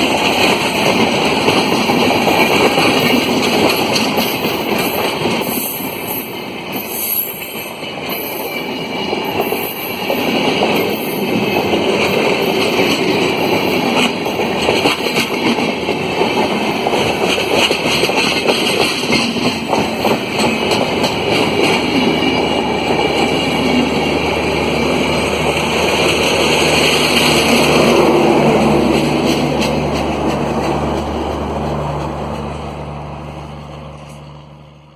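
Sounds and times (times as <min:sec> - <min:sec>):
wheels clattering over rail joints: 0:00.0 - 0:34.5
train rushing past: 0:00.0 - 0:34.9.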